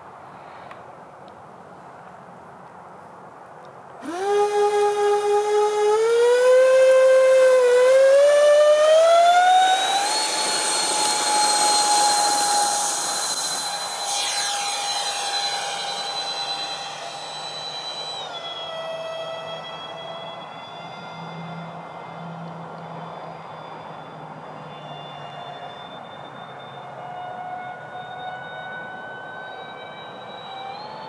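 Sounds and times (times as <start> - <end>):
model jet fans whining: 4.0 - 31.0.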